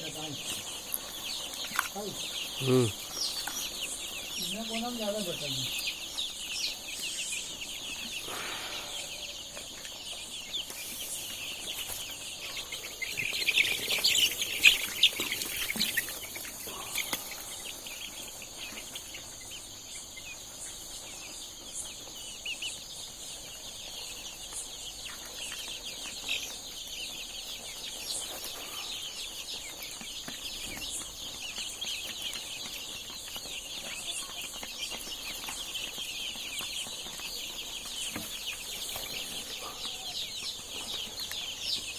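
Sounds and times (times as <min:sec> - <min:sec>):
chickens clucking and cheeping: 0:00.0 - 0:41.9.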